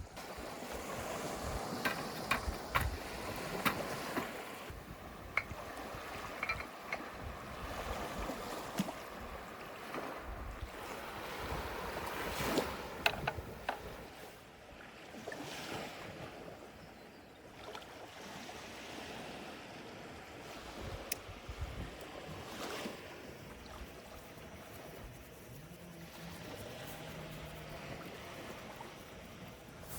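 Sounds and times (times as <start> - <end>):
sea water: 0.0 - 29.9
wind: 0.0 - 29.9.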